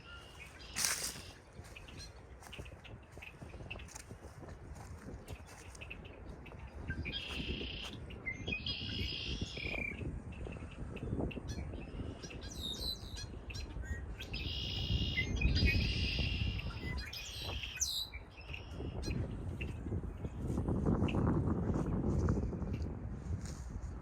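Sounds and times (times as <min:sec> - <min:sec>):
songbirds warbling: 0:00.0 - 0:20.3
low rumble of wind: 0:00.0 - 0:24.0.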